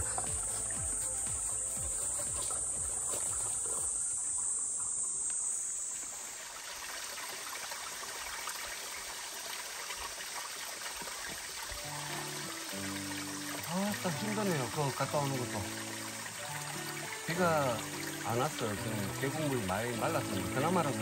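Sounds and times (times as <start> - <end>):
insect chirring: 0.0 - 7.9, 11.4 - 21.0
stream running over rocks: 0.0 - 21.0
water trickling: 0.0 - 21.0.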